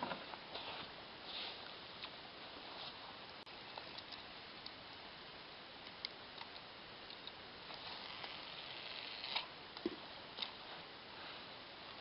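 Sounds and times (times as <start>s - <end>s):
faint microphone hiss: 0.0s - 12.0s.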